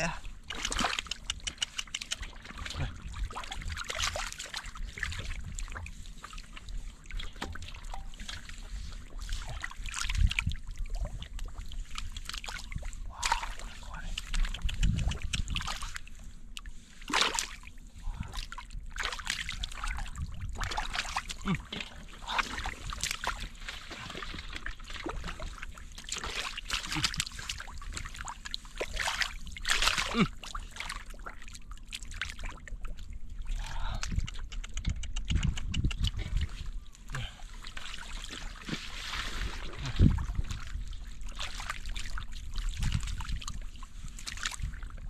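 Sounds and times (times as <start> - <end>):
shallow water splashing: 0.0 - 34.6, 36.0 - 45.0.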